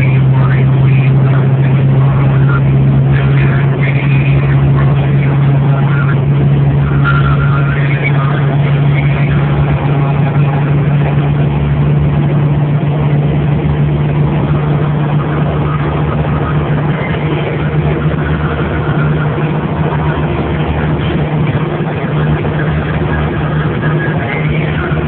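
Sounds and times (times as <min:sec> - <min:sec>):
car engine at high revs: 0:00.0 - 0:25.0
road noise: 0:00.0 - 0:25.0
wind noise: 0:00.0 - 0:25.0.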